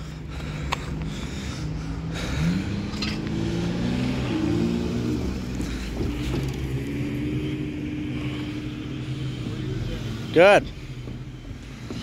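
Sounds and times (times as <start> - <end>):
diesel locomotive engines running: 0.0 - 12.0.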